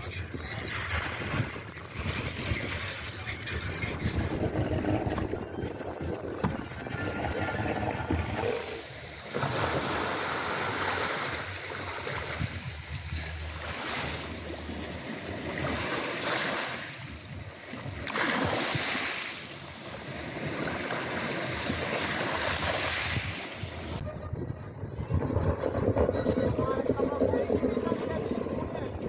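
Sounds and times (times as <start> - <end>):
wind on microphone: 0.0 - 29.0
small waves washing on beach: 0.1 - 24.0.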